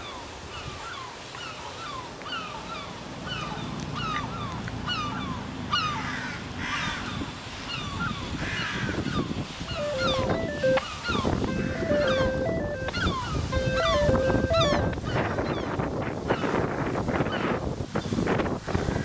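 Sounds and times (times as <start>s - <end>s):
birds giving falling calls: 0.0s - 15.8s.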